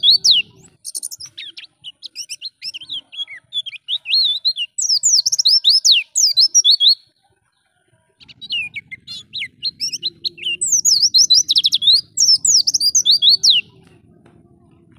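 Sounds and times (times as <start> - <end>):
bird twittering song: 0.0 - 14.1.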